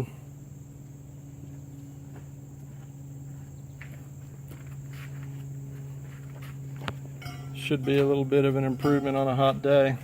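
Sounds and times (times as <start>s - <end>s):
high-pitched buzz: 0.0s - 10.0s
low hum: 0.0s - 10.0s.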